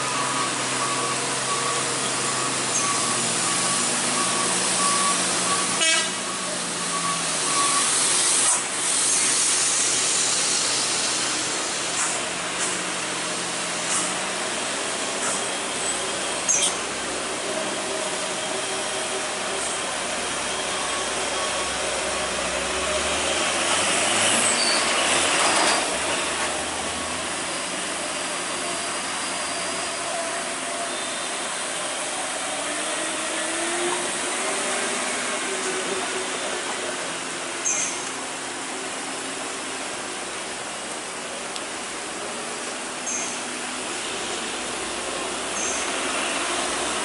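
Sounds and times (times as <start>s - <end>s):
heavy rain on a wet road: 0.0s - 47.0s
vehicles passing on wet road: 0.0s - 47.0s.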